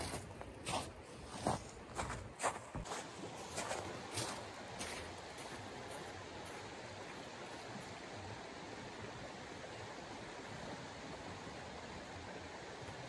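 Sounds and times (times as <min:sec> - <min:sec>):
steady rushing outdoor noise: 0:01.3 - 0:13.0.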